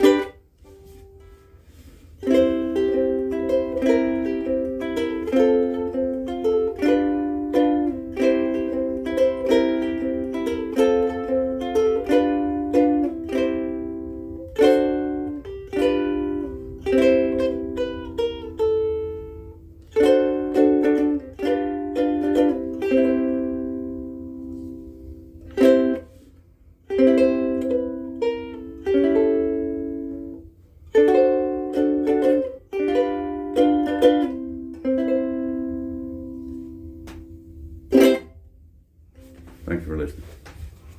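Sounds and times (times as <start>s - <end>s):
ukulele strummed and plucked: 0.0s - 39.7s.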